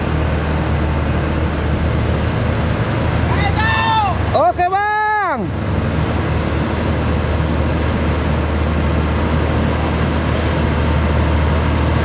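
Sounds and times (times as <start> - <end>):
road noise: 0.0 - 12.0
truck diesel engine droning: 0.0 - 12.0.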